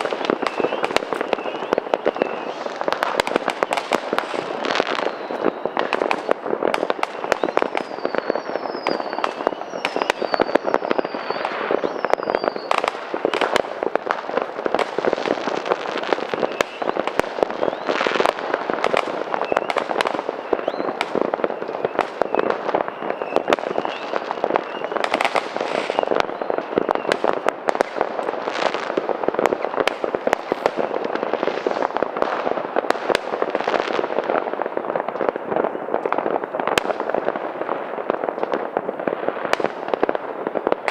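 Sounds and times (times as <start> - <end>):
firework whistles: 0.0 - 37.3
fireworks bangs and crackling: 0.0 - 40.9.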